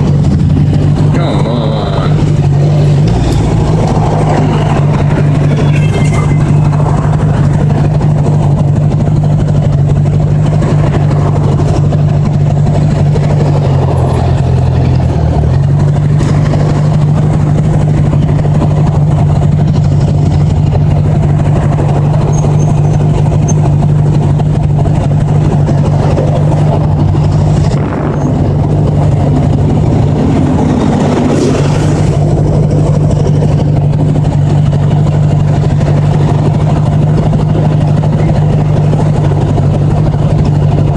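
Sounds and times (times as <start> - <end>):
motorcycle engine running: 0.0 - 40.9
steady rush of noise: 0.0 - 40.9.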